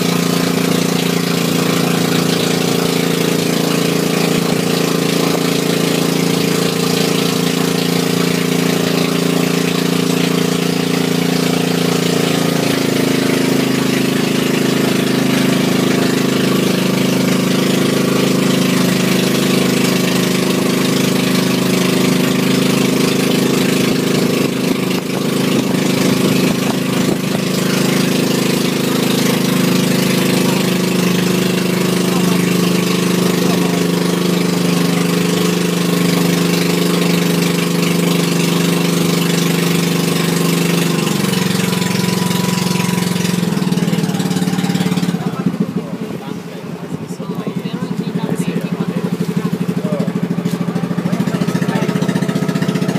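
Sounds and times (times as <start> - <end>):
boat engine running: 0.0 - 52.9
hiss of wind and water: 0.0 - 52.9.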